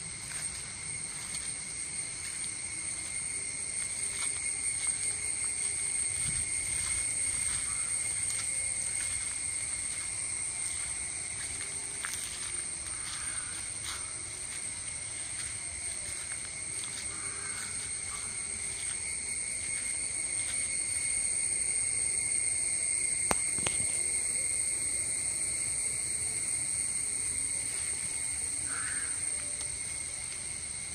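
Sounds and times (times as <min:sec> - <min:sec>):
background hiss: 0:00.0 - 0:30.9
insect chorus chirring: 0:00.0 - 0:30.9.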